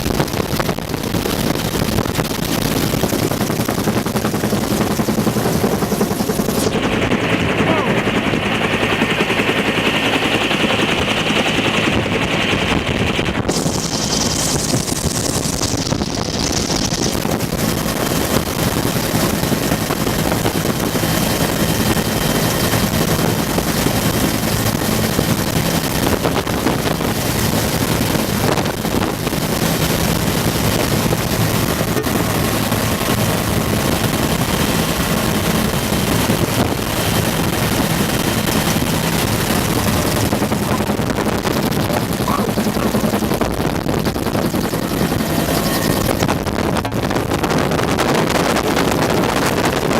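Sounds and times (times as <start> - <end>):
helicopter rotor chop: 0.0 - 49.9
turbine engine whine: 0.0 - 49.9.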